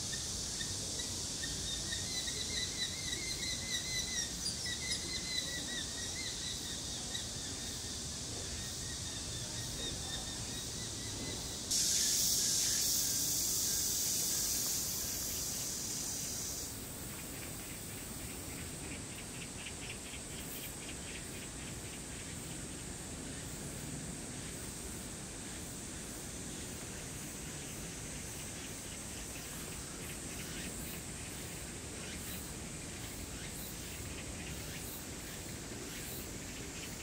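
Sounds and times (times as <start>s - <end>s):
insects droning: 0.0s - 37.0s
outdoor background noise: 0.0s - 37.0s.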